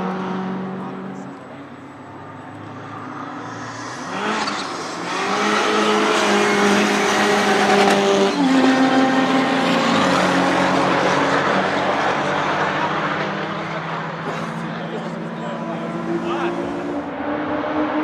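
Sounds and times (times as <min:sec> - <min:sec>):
car engine accelerating hard: 0:02.6 - 0:18.0.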